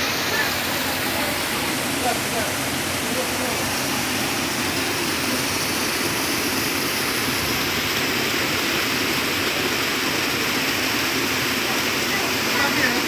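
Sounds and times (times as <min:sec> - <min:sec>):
water pouring over rocks: 0:00.0 - 0:13.0.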